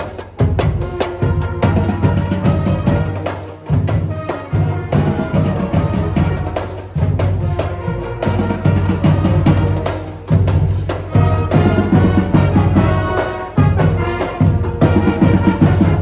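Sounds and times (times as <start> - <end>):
marching drums: 0.0 - 16.0
trumpets and clarinets: 0.0 - 16.0.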